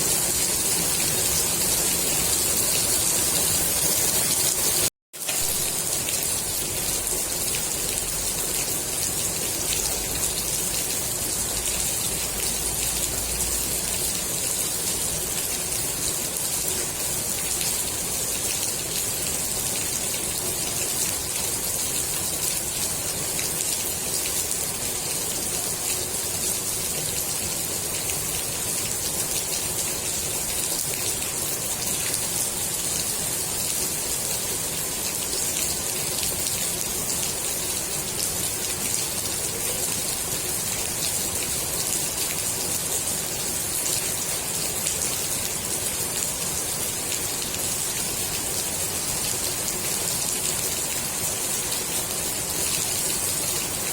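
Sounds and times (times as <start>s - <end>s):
rain falling on pool water: 0.0s - 53.9s.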